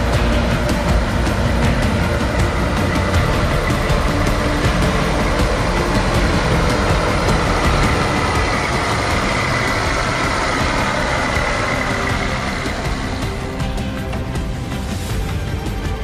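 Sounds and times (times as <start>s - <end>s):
steady high whine: 0.0s - 16.0s
tractor engine running hard: 0.0s - 16.0s.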